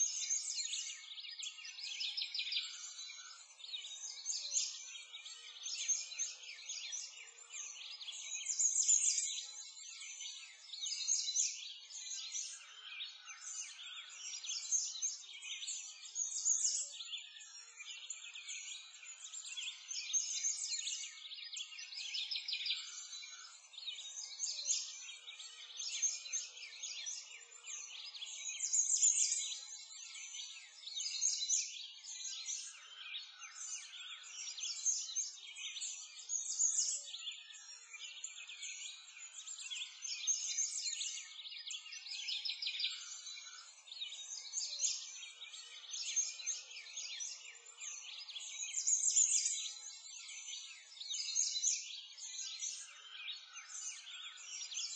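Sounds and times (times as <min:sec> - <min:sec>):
chorus of birds chirping: 0:00.0 - 0:54.9.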